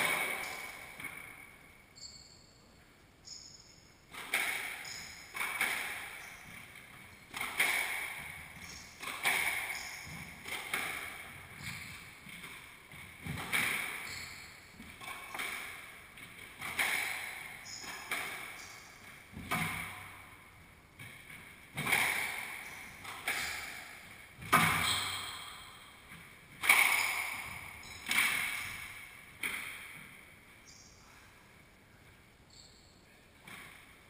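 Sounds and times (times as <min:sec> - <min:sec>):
squash ball hitting walls: 0:00.0 - 0:01.6, 0:04.1 - 0:14.2, 0:14.8 - 0:30.3.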